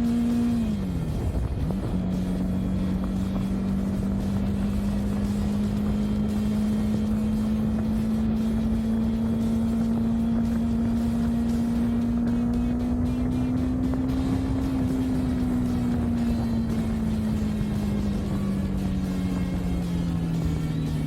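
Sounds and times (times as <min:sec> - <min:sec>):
motorcycle engine cruising: 0:00.0 - 0:21.0
wind and road noise: 0:00.0 - 0:21.0.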